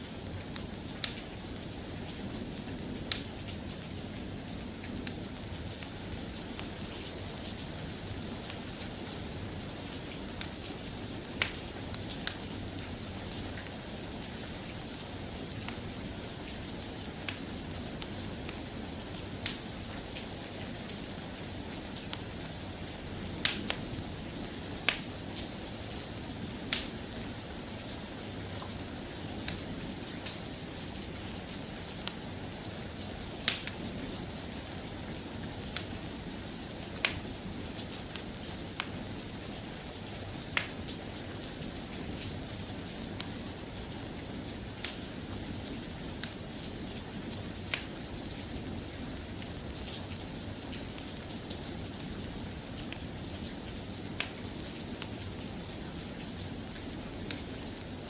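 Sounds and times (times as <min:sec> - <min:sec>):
soft rain: 0:00.0 - 0:58.0.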